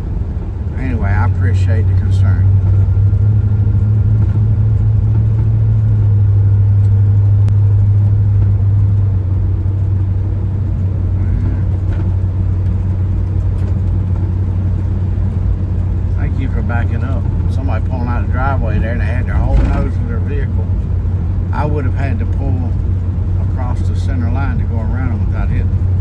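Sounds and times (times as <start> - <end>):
vehicle engine and road drone: 0.0 - 26.0.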